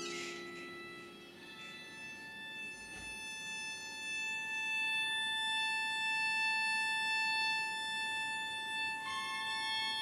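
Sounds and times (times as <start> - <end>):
long held instrumental note: 0.0 - 10.0.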